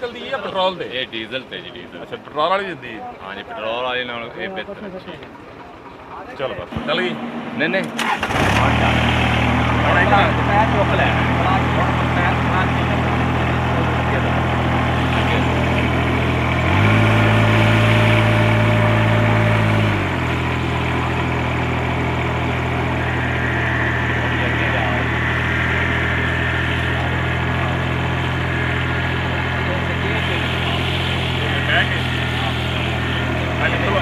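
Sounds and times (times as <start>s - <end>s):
diesel engine idling and revving: 0.0s - 34.0s.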